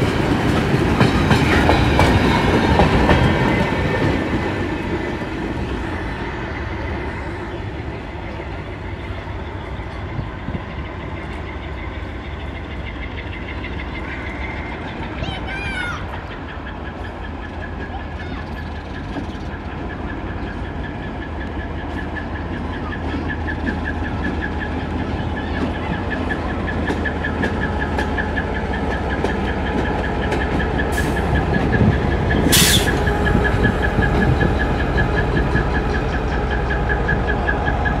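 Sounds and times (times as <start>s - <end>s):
diesel locomotive engine rumble: 0.0s - 38.0s.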